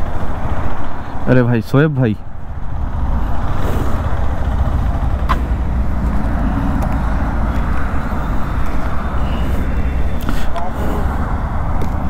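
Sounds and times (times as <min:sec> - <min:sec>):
road and wind hiss: 0:00.0 - 0:12.0
motorcycle engine rumble: 0:02.2 - 0:12.0.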